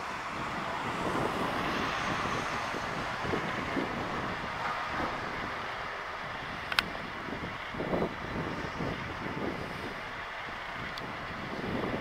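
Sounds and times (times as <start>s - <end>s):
outdoor background rumbling hiss: 0.0s - 12.0s.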